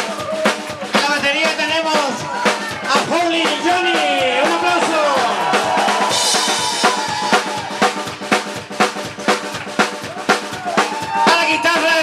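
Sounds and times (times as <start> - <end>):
band holding notes: 0.0 - 12.0
bass drum and snare beat: 0.0 - 12.0.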